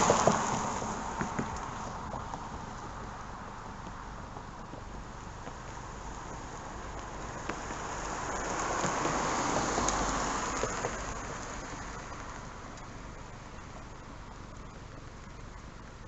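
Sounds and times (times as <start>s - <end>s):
truck passing by: 0.0s - 14.8s.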